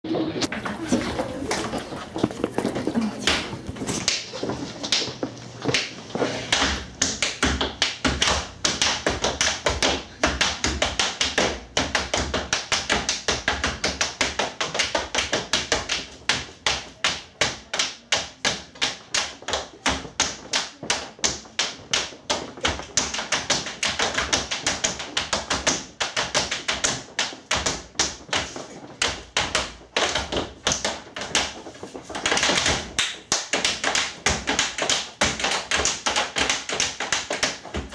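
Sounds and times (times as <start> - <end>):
tap shoes on wooden stage: 0.4 - 37.9.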